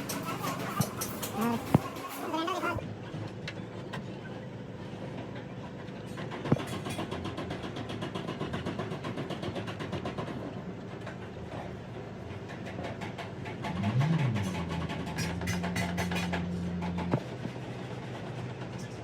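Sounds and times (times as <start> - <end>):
engine running with fast ticking: 0.0 - 19.0.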